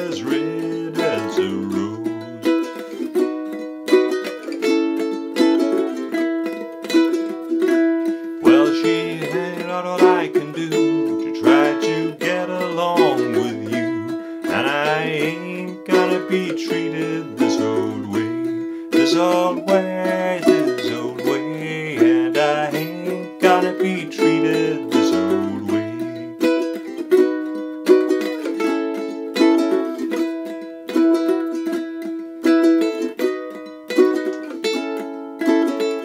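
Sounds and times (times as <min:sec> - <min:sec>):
ukulele plucked melody: 0:00.0 - 0:36.0
ukulele strumming chords: 0:00.0 - 0:36.0.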